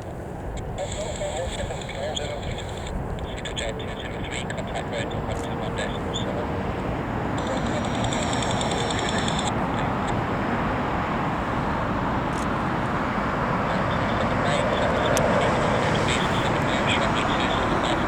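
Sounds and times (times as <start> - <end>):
jet engines rumbling: 0.0 - 18.0
road traffic: 0.0 - 18.0.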